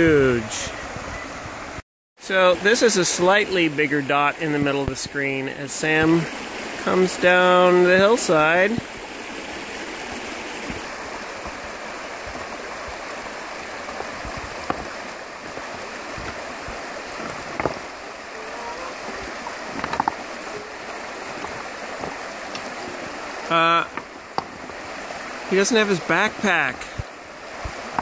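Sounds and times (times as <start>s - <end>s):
creek water rushing: 0.0s - 28.0s.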